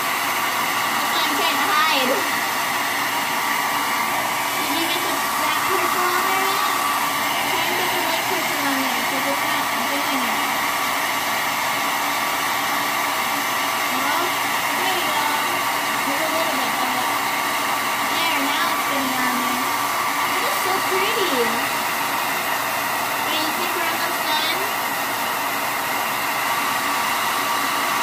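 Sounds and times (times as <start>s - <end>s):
hair dryer running: 0.0s - 28.0s.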